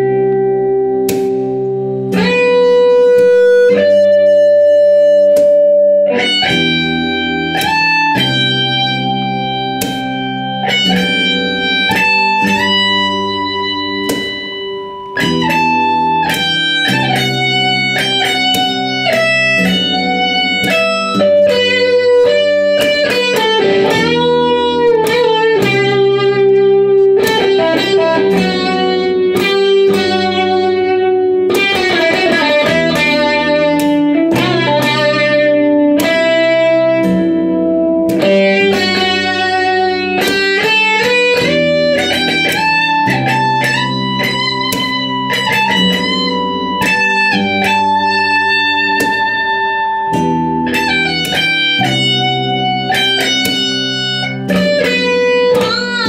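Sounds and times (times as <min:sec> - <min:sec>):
picked guitar melody: 0:00.0 - 0:56.0.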